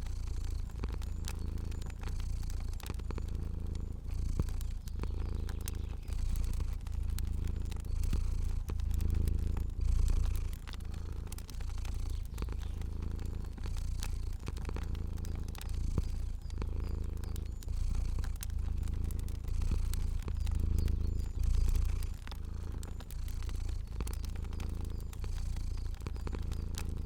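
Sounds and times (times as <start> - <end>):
cat purring: 0.0 - 27.0
fire crackling: 0.0 - 27.0.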